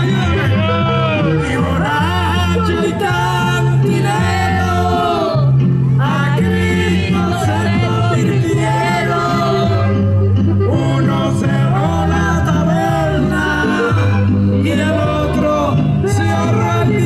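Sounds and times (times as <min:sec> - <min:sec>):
man singing into microphone: 0:00.0 - 0:10.0, 0:10.6 - 0:17.0
live band playing: 0:00.0 - 0:17.0
steady bass line: 0:00.0 - 0:17.0.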